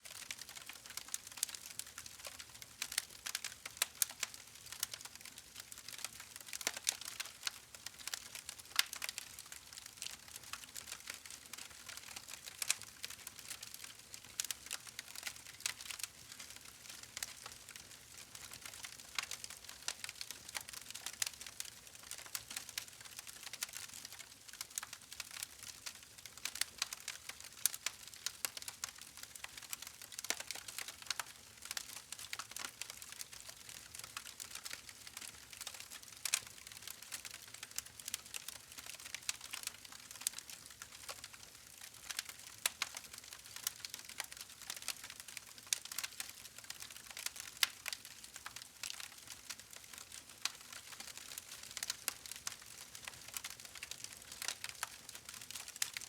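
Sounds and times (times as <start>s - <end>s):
wood fire crackling: 0.1s - 56.0s.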